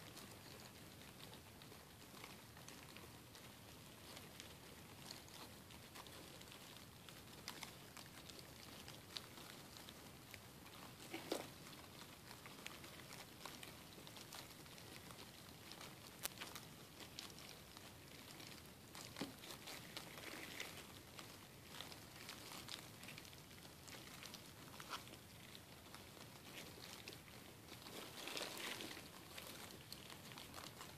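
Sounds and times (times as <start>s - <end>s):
faint steady hiss: 0.0s - 30.9s
soft clicks and rustles: 0.0s - 30.9s.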